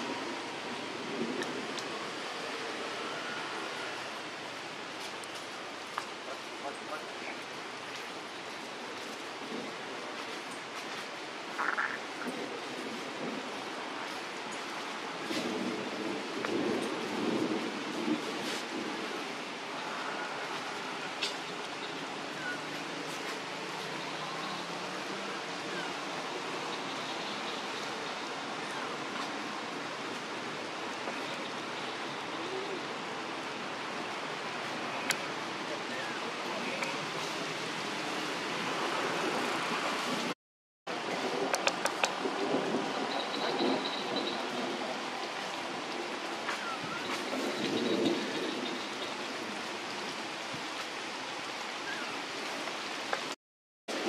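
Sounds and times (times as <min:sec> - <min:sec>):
forest ambience hiss: 0:00.0 - 0:40.0, 0:41.6 - 0:53.4.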